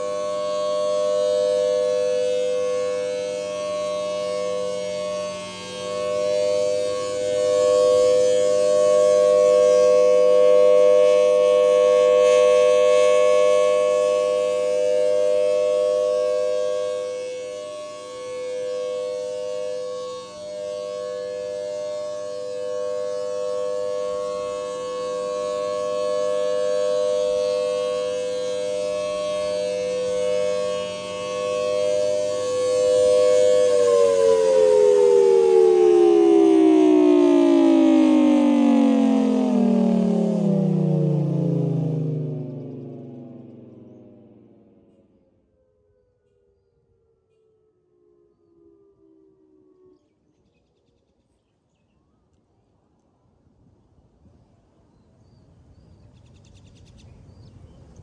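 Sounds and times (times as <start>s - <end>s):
two-note warning siren: 0.0s - 51.4s.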